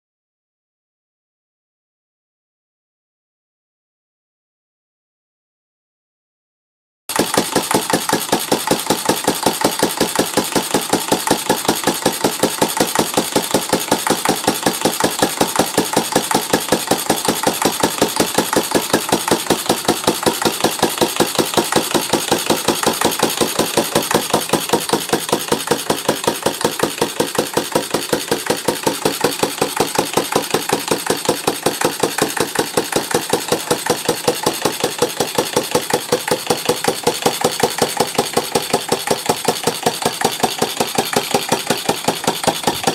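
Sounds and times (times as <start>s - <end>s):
stationary engine running: 7.1s - 42.9s.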